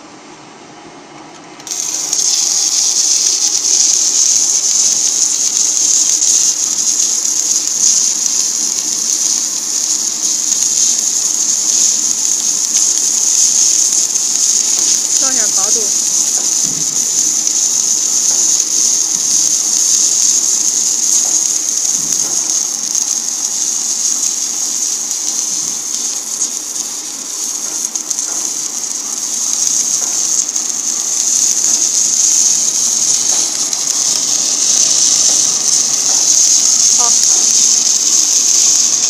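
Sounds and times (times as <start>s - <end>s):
welding arc hissing: 1.5s - 39.0s.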